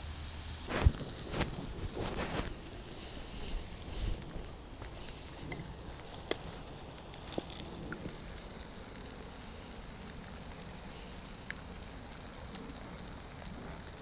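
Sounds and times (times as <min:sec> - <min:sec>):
campfire crackles: 0:00.0 - 0:14.0
food sizzling in a frying pan: 0:00.0 - 0:14.0.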